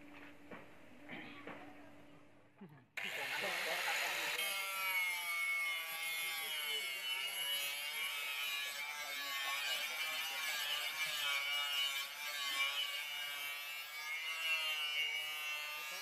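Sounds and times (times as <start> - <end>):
angle grinder grinding steel: 3.0 - 16.0.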